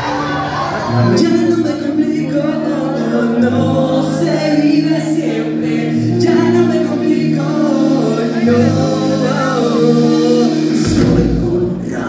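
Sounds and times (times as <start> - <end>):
held bass notes: 0.0 - 12.0
people singing: 0.0 - 12.0
rock band playing live: 0.0 - 12.0.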